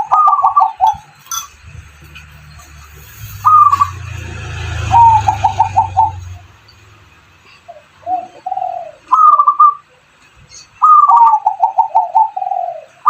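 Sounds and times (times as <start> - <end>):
doves cooing: 0.0 - 1.8, 3.2 - 6.5, 7.4 - 13.0.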